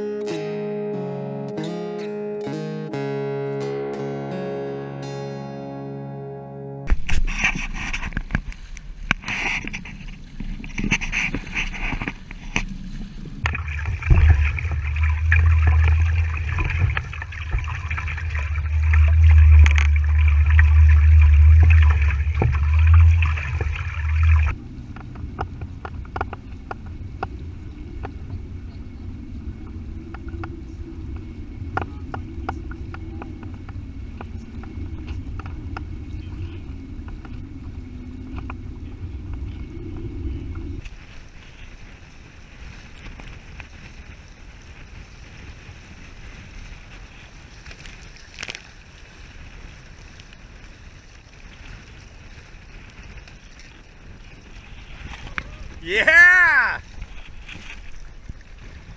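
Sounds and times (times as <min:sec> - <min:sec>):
water sounds: 0:00.0 - 0:58.9
wind on microphone: 0:06.8 - 0:58.9.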